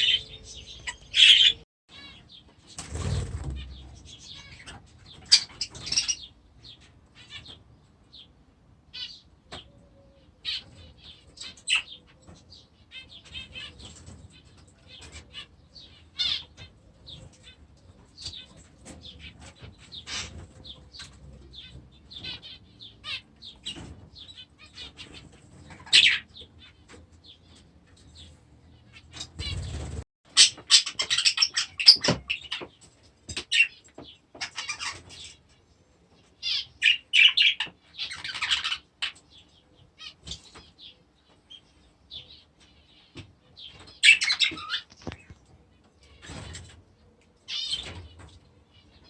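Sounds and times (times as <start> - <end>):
small birds chirping and chattering: 0.0 - 49.0.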